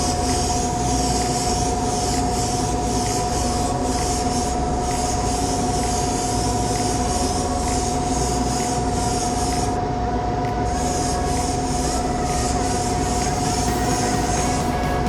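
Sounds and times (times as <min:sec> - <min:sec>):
compressor whining: 0:00.0 - 0:15.0.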